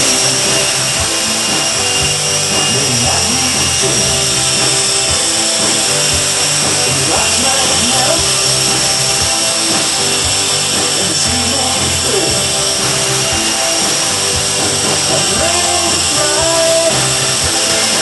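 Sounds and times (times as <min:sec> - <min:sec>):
music playing: 0:00.0 - 0:18.0
rc helicopter motor whining: 0:00.0 - 0:18.0.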